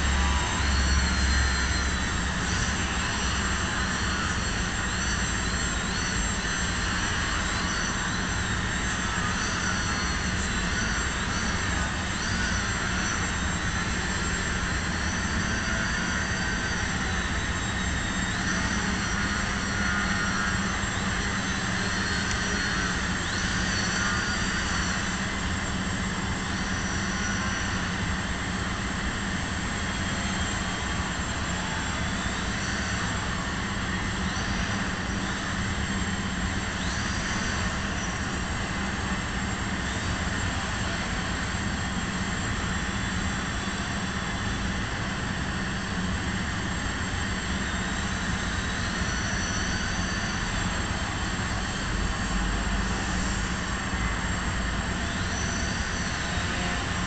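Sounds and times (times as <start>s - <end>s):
model airplane motor buzzing: 0.0s - 57.0s.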